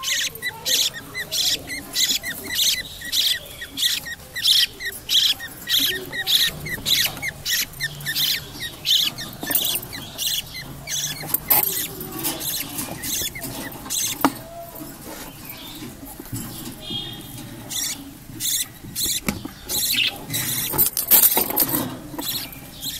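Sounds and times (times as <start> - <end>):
parrot chicks cheeping: 0.0 - 22.9.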